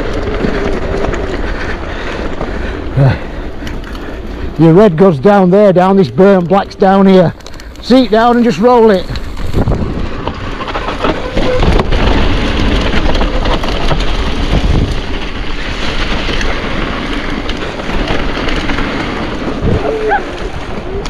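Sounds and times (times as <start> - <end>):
bike rattling: 0.0 - 21.0
heavy low rumble: 0.0 - 21.0
tyres crunching over stones: 0.0 - 21.0.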